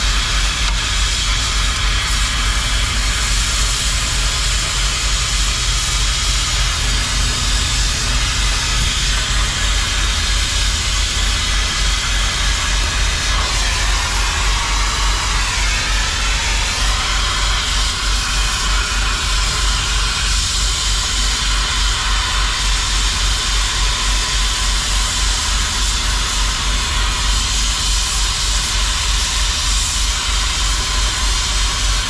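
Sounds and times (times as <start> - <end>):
cutting torch hissing: 0.0 - 32.0.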